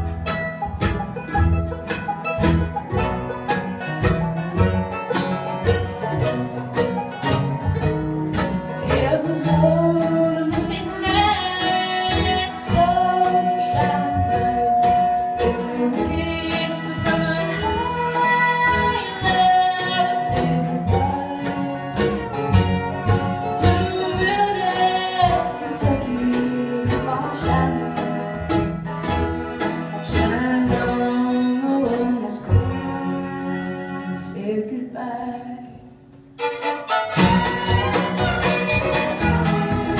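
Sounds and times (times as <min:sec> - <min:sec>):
long held fiddle notes: 0:00.0 - 0:34.2, 0:36.4 - 0:39.9
bluegrass band playing: 0:00.0 - 0:39.9.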